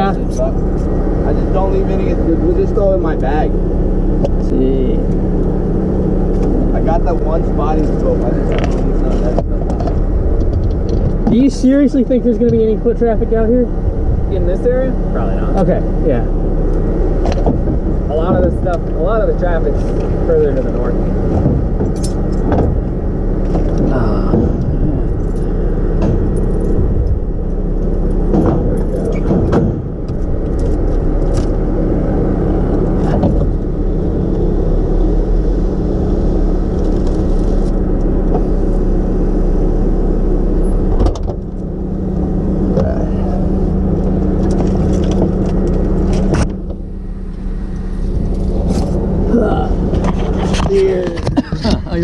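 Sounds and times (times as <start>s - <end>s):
vehicle engine idling: 0.0s - 52.0s.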